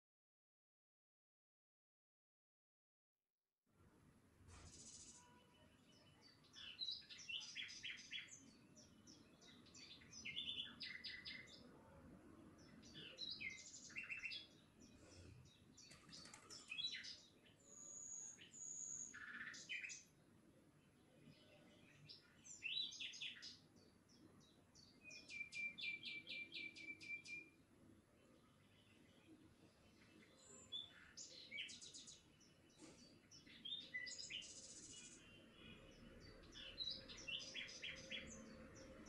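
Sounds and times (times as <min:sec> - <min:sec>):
faint low outdoor background: 0:03.6 - 0:39.0
small birds chirping: 0:04.5 - 0:39.0.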